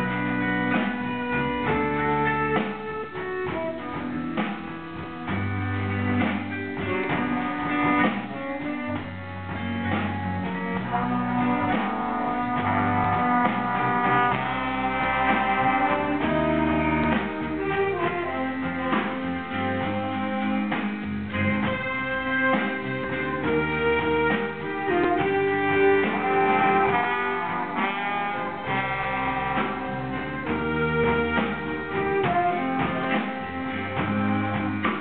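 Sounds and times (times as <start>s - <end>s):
jazz band playing: 0.0s - 35.0s
low bass line: 0.0s - 35.0s
saxophones and trombones chords: 0.0s - 35.0s.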